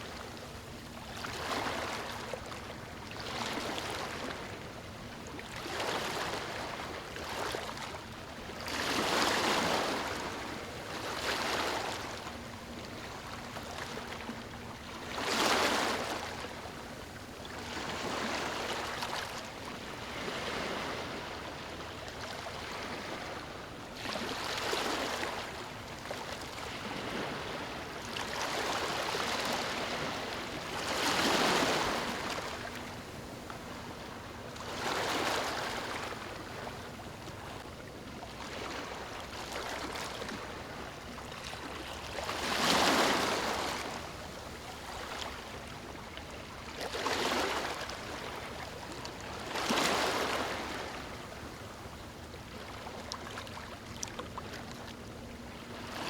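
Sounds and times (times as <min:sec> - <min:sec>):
small waves lapping on beach: 0:00.0 - 0:56.0.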